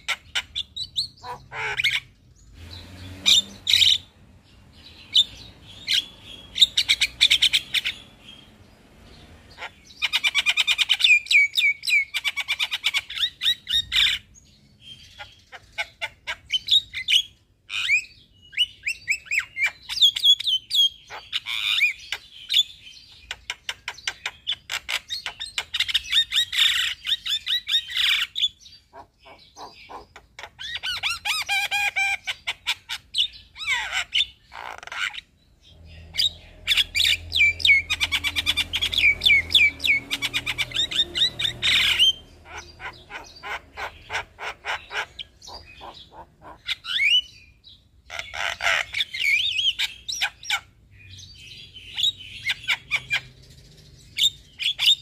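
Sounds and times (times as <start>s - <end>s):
myna bird chattering song: 0.0s - 55.0s.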